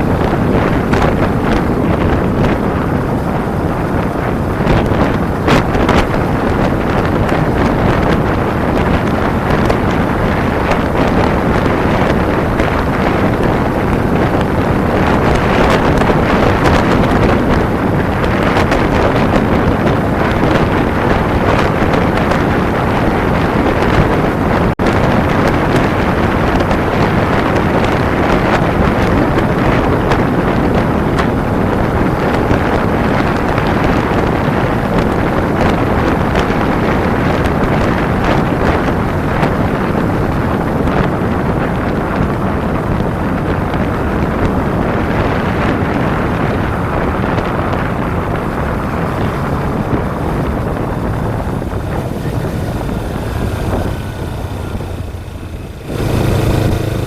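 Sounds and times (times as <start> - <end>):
wind roaring on microphone: 0.0 - 57.0.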